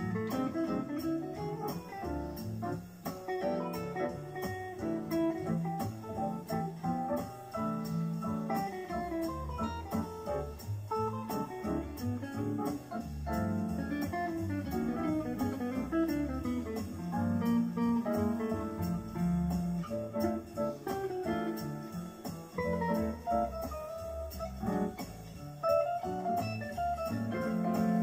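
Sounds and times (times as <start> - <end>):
electric guitar jazz lines: 0.0 - 28.0
low bass notes: 0.0 - 28.0
ticking cymbal beat: 0.0 - 28.0.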